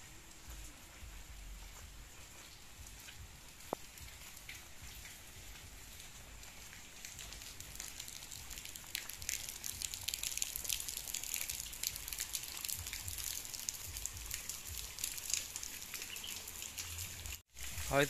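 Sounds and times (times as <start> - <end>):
rain drops ticking on leaves: 0.0 - 18.0.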